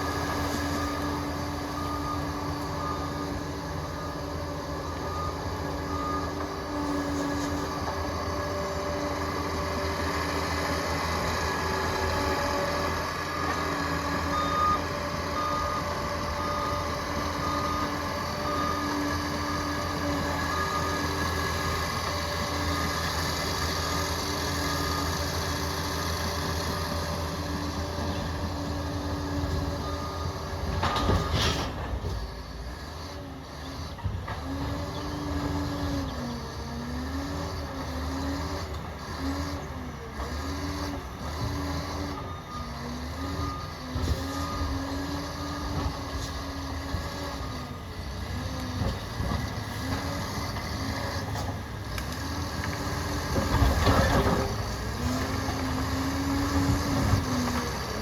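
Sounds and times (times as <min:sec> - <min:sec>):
dozer diesel engine running: 0:00.0 - 0:58.0.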